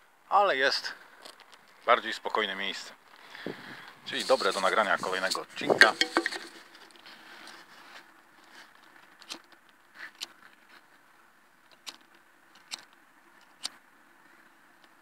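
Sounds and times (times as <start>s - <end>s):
faint outdoor hum: 0.0s - 15.0s.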